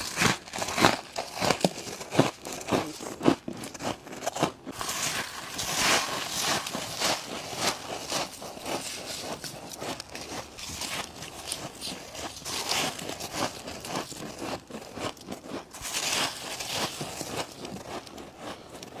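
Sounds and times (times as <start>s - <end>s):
crunching frozen ice: 0.0s - 19.0s.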